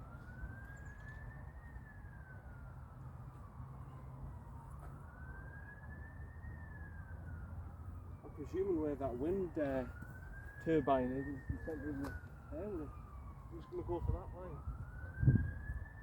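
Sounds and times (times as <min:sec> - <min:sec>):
faint siren wailing: 0:00.0 - 0:16.0.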